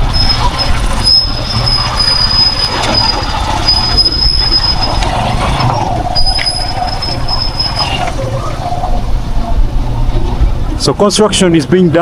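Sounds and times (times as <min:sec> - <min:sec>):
high-pitched squeal: 0:00.0 - 0:09.6
vehicle driving rumble: 0:00.0 - 0:12.0.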